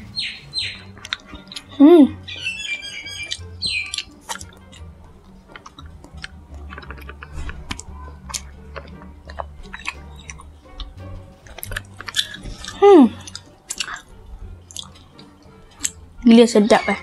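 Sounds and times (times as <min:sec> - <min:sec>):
wet chewing and sipping: 0:01.0 - 0:01.8, 0:03.2 - 0:16.2.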